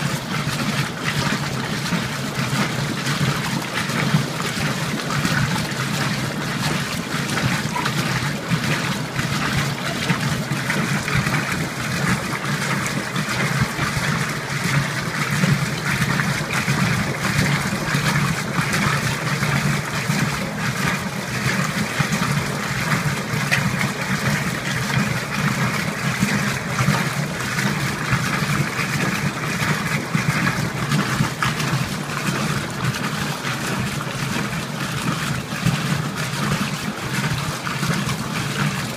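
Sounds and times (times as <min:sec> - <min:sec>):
washing machine low hum: 0:00.0 - 0:38.9
water and clothes sloshing: 0:00.0 - 0:38.9.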